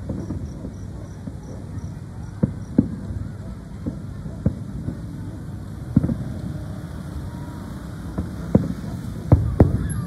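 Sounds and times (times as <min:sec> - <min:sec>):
firework shells booming: 0:00.0 - 0:10.0
low background rumble: 0:00.0 - 0:10.0.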